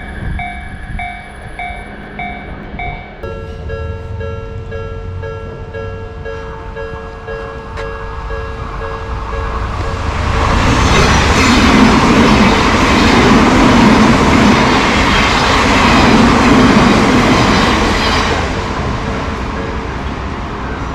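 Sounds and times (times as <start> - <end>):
train wheels rushing on rail: 0.0 - 20.9.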